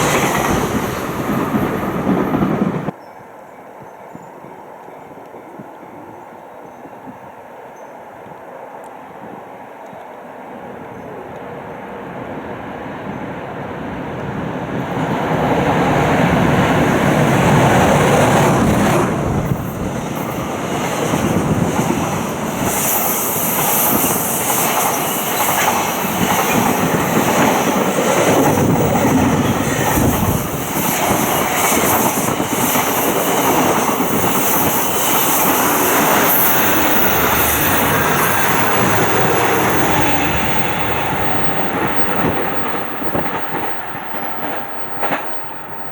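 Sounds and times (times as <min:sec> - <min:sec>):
train wheels on rails: 0:00.0 - 0:03.0, 0:03.8 - 0:45.9.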